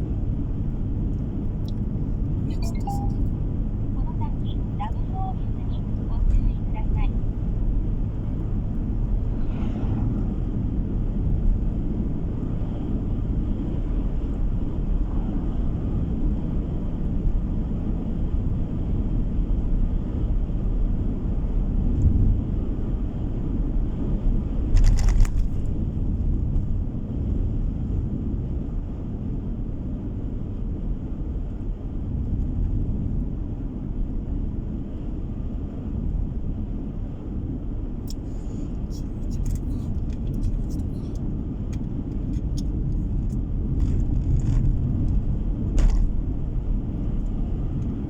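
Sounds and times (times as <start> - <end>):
car tyre and engine rumble: 0.0 - 48.0.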